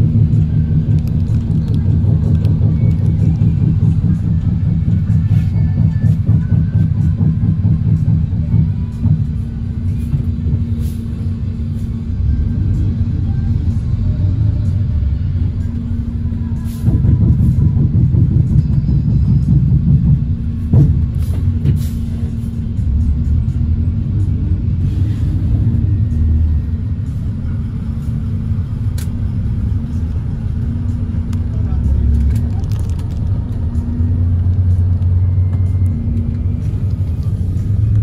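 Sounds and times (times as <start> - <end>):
bus engine and road rumble: 0.0 - 38.0
constant hum: 0.0 - 38.0.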